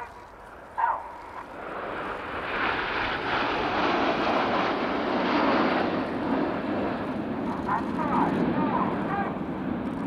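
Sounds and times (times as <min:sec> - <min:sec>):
jets flying past: 0:00.0 - 0:10.0.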